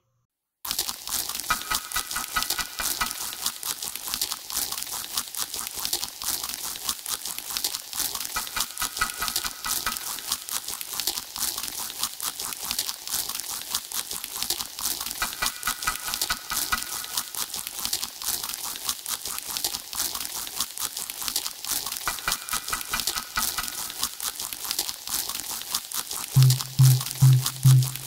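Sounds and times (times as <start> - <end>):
crackling noisy clicks: 0.7 - 5.2, 7.6 - 18.9, 21.3 - 28.0.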